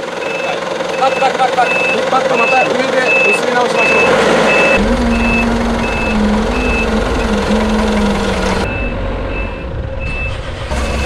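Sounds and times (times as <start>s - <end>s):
forklift engine running: 0.0s - 11.0s
back-up alarm beeping: 0.1s - 11.0s.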